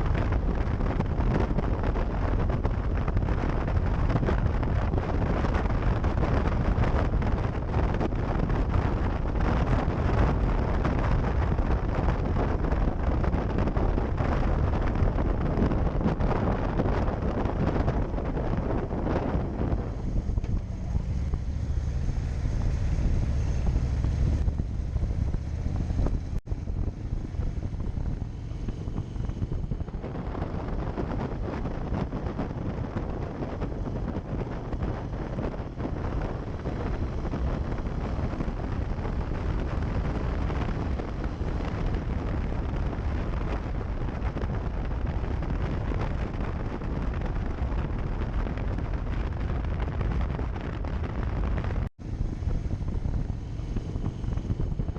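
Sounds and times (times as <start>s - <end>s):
low rumble: 0.0s - 54.9s
wind noise on microphone: 0.0s - 54.9s.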